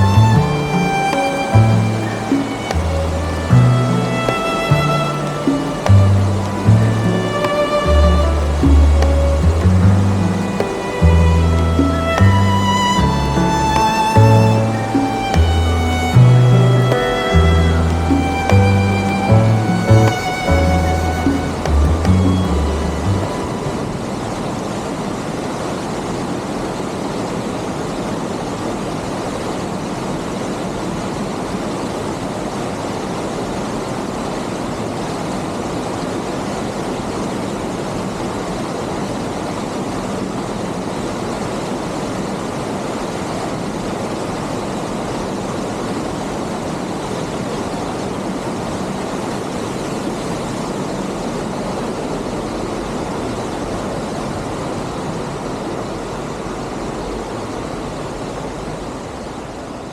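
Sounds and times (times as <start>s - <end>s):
waterfall rushing: 0.0s - 59.3s.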